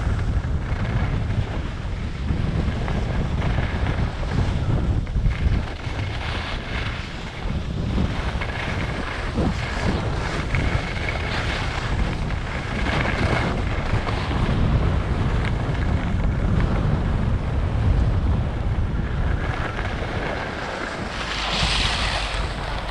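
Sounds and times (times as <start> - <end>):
skis sliding over snow: 0.0 - 22.9
wind buffeting microphone: 0.0 - 22.9.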